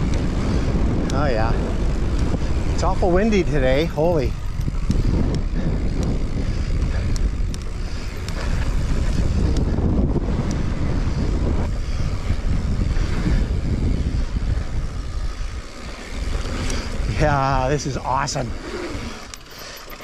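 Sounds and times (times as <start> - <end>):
bike clicks and rattles: 0.0 - 20.0
wind rumbling on microphone: 0.0 - 20.0.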